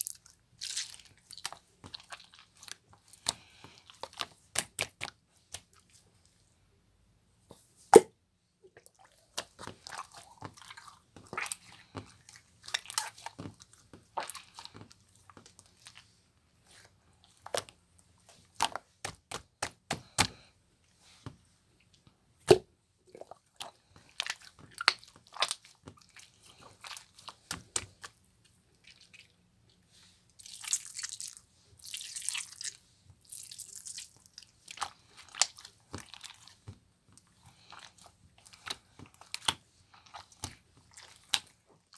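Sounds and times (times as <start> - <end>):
slime squelching and popping: 0.0 - 6.0, 7.9 - 16.2, 17.2 - 20.5, 22.4 - 29.4, 30.4 - 41.9.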